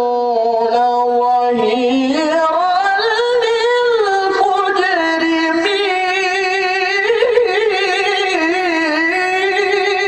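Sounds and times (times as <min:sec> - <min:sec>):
man chanting melodic recitation: 0:00.0 - 0:10.0.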